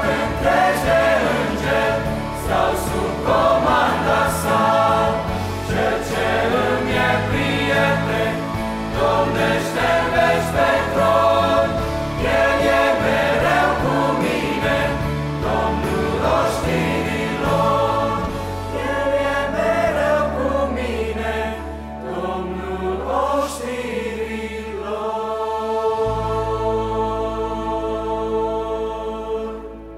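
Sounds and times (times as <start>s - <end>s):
instrumental accompaniment: 0.0s - 29.9s
mixed choir singing a hymn: 0.0s - 29.9s.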